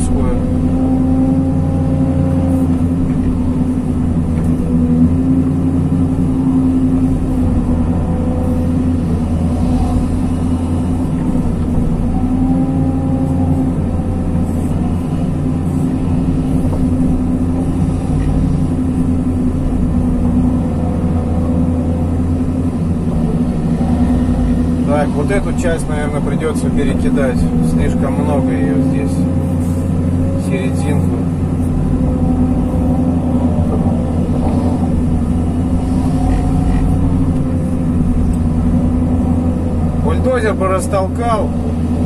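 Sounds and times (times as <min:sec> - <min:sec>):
excavator diesel engine droning: 0:00.0 - 0:42.0
faint hydraulic whine: 0:02.3 - 0:42.0.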